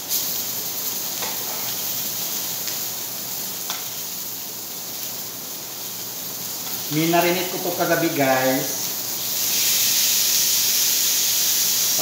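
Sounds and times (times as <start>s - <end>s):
chicken sizzling on hot plate: 0.0s - 12.0s.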